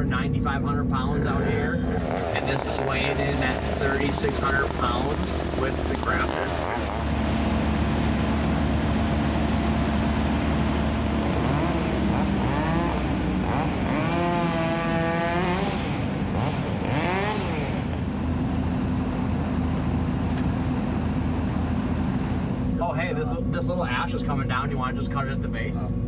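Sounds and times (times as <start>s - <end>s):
crane engine running: 0.0s - 26.0s
higher-pitched engine revving: 1.7s - 22.8s.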